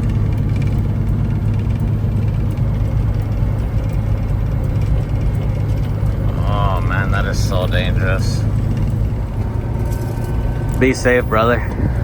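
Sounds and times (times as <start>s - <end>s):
diesel truck engine droning: 0.0s - 12.0s
road noise: 0.0s - 12.0s.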